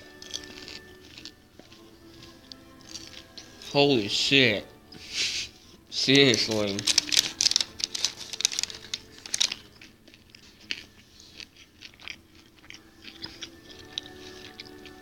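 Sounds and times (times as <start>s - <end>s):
person chewing sandwich: 0.0s - 15.0s.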